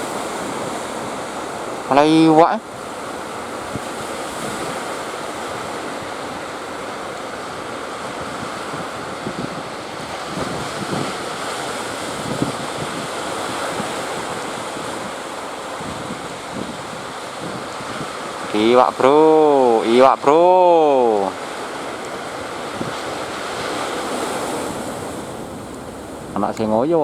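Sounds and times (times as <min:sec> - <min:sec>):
sea surf breaking: 0:00.0 - 0:27.0
wind buffeting microphone: 0:00.0 - 0:27.0.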